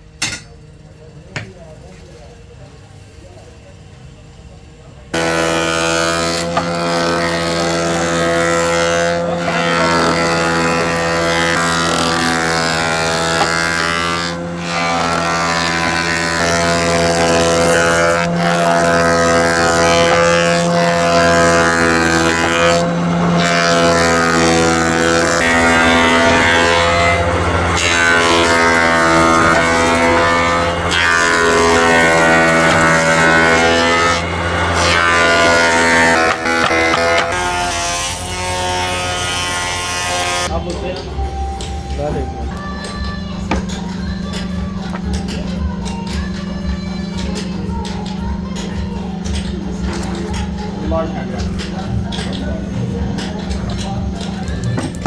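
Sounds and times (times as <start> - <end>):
woodworking machine motor humming: 5.1 - 55.0.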